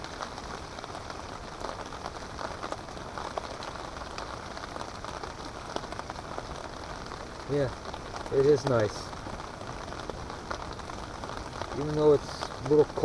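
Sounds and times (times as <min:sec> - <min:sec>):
rain pattering on a tarp: 0:00.0 - 0:13.0.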